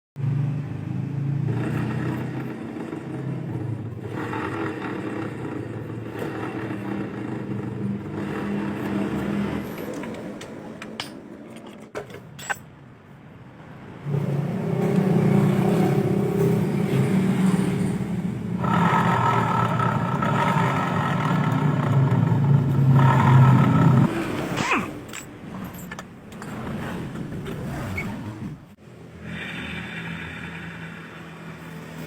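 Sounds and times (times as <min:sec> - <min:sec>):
vehicle engine humming: 0:00.2 - 0:11.6, 0:13.4 - 0:32.0.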